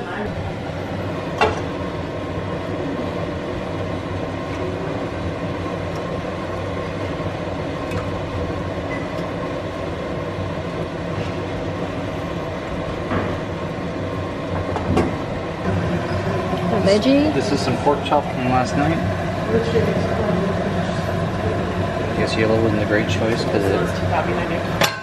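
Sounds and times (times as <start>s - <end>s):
machine whirring hum: 0.0s - 25.0s.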